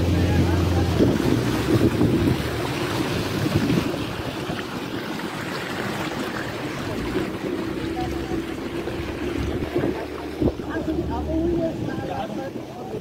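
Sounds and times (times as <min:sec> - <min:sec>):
wind on microphone: 0:00.0 - 0:05.2, 0:06.6 - 0:13.0
motorboat engine running: 0:00.0 - 0:13.0
water rushing past hull: 0:00.0 - 0:13.0.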